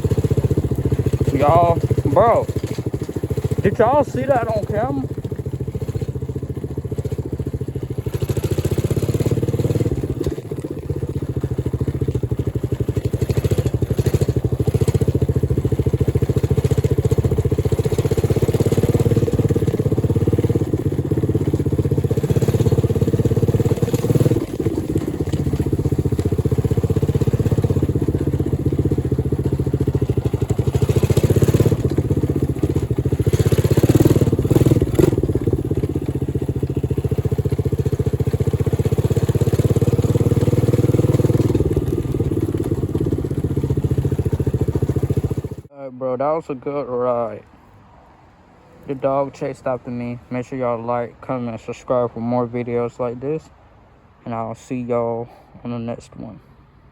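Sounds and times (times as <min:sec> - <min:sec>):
dirt bike engine running: 0:00.0 - 0:45.7.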